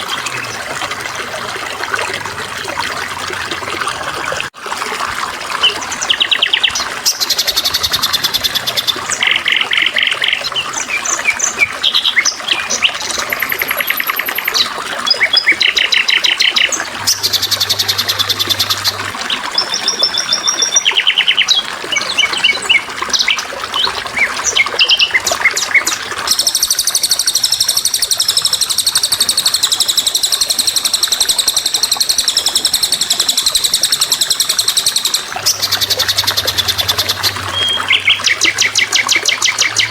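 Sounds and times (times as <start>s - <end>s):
songbirds chirping and trilling: 5.6s - 39.9s.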